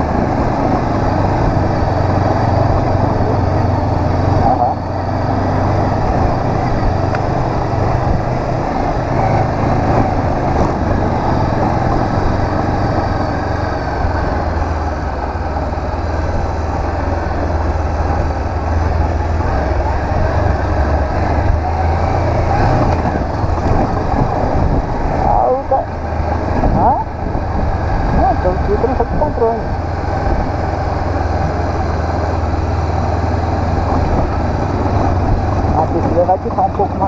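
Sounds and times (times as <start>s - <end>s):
motorcycle engine humming: 0.0s - 37.0s
riding wind noise: 0.0s - 37.0s.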